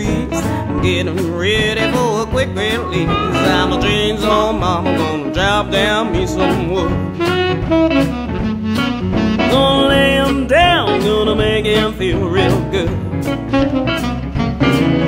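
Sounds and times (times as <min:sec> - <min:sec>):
blues band playing: 0:00.0 - 0:15.0
lead instrument soloing: 0:00.0 - 0:15.0.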